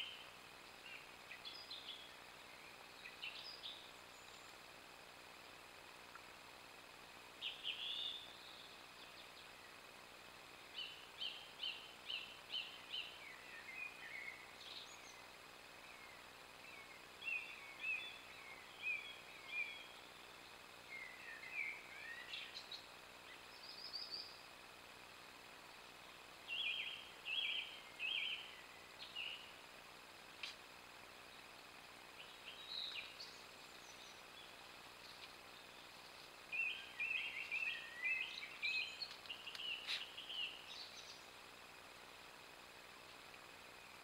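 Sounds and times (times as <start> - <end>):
song thrush singing: 0.0 - 44.0.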